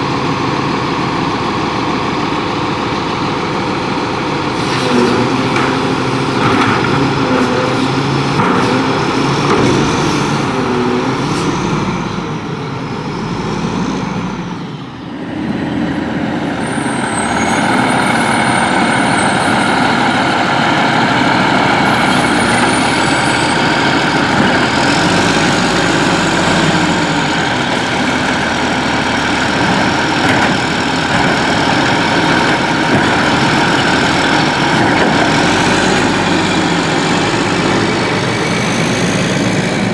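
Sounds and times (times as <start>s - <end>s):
garbage truck running: 0.0s - 39.9s.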